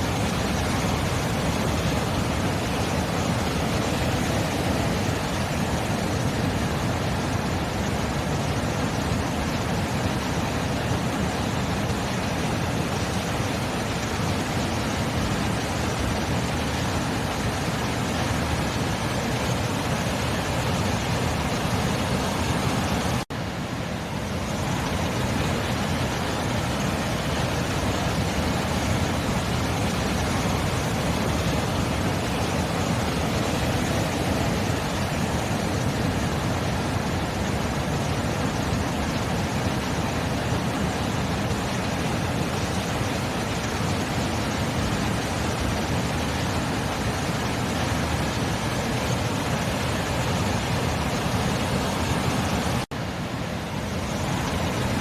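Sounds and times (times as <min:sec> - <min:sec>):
ocean waves washing: 0:00.0 - 0:55.0.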